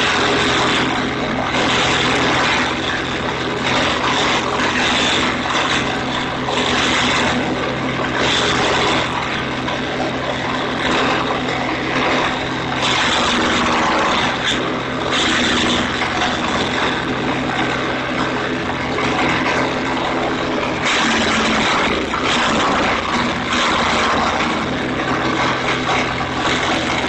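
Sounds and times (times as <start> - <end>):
wood chipper engine hum: 0.0 - 27.0.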